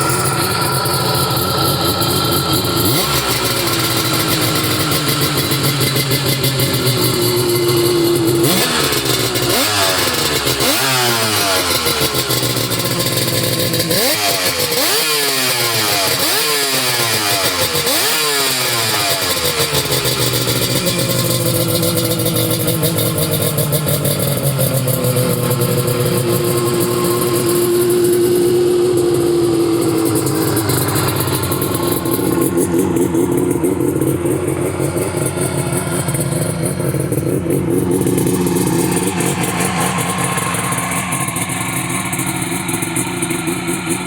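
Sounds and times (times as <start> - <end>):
two-stroke engine running: 0.0 - 44.0.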